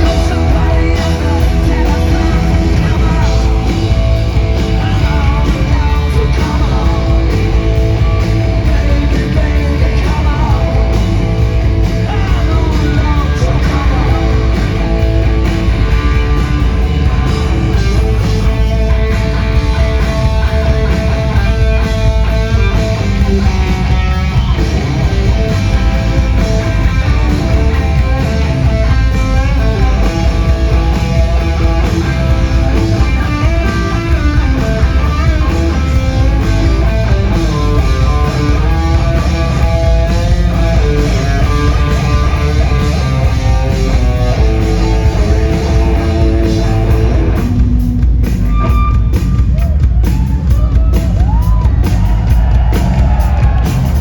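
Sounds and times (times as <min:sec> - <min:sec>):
bass guitar: 0:00.0 - 0:54.0
drum kit: 0:00.0 - 0:54.0
loud electric guitar: 0:00.0 - 0:54.0.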